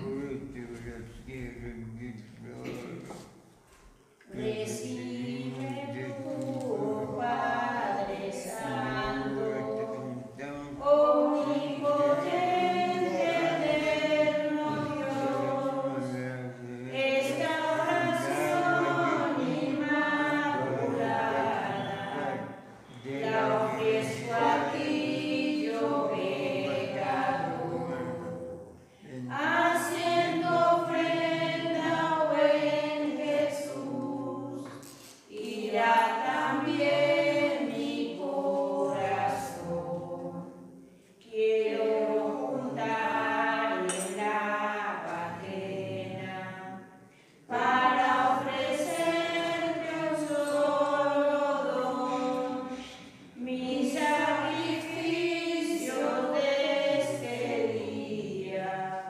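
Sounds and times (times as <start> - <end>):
group singing a hymn: 0.0 - 2.0, 2.6 - 59.0.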